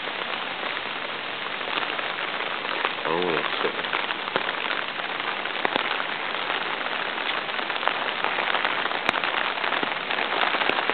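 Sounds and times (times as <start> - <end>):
heavy rain on water: 0.0 - 10.9.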